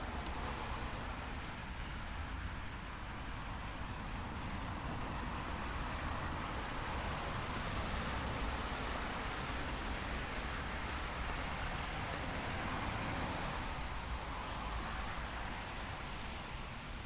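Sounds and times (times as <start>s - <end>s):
rain on a street: 0.0s - 17.0s.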